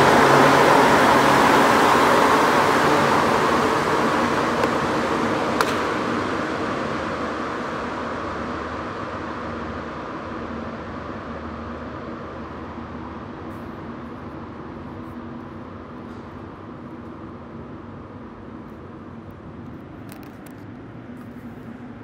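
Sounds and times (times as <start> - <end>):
train running into a tunnel: 0.0 - 19.3.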